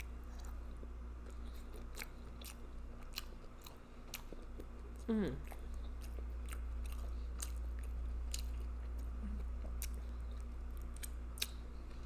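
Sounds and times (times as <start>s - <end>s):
close chewing with lip smacks: 0.0s - 12.0s.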